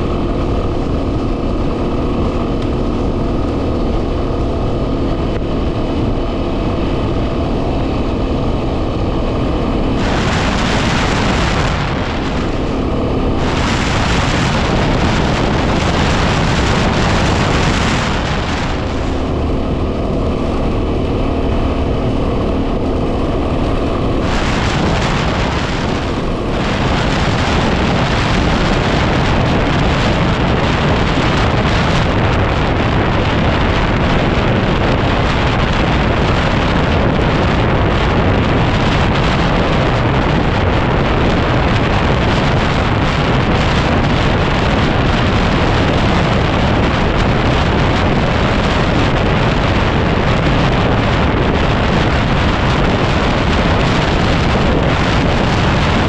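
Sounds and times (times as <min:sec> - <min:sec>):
motorcycle engine: 0:00.0 - 0:56.0
wind buffeting microphone: 0:00.0 - 0:56.0.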